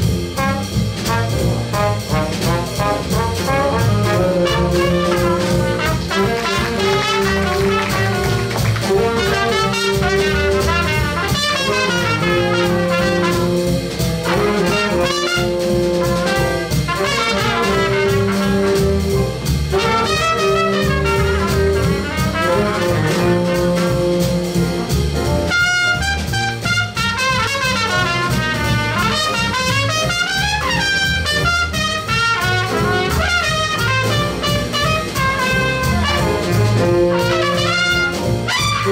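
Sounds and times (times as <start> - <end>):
horn section chords: 0.0 - 38.9
upright bass: 0.0 - 38.9
solo trumpet line: 1.3 - 19.1, 19.7 - 24.2, 25.5 - 38.9.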